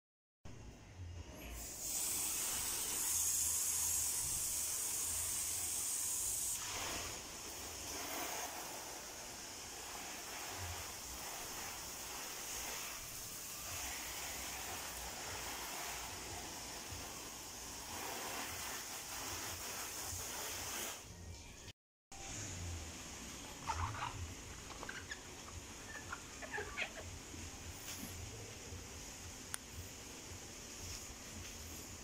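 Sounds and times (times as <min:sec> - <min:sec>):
hose spraying water: 0:01.6 - 0:21.2, 0:22.2 - 0:32.0.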